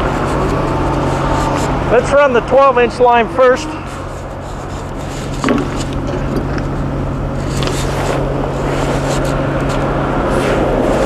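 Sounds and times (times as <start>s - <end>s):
engine hum: 0.0s - 11.0s.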